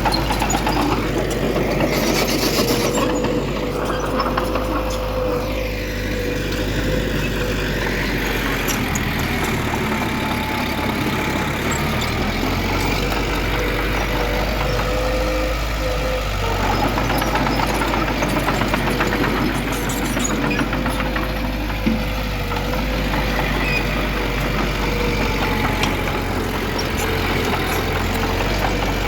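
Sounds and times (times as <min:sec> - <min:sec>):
heavy machinery diesel engine: 0:00.0 - 0:29.0.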